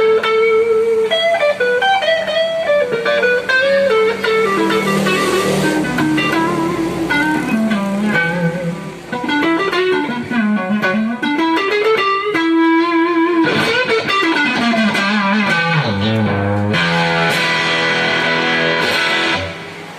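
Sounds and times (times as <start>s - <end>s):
electric guitar solo: 0.0s - 19.9s.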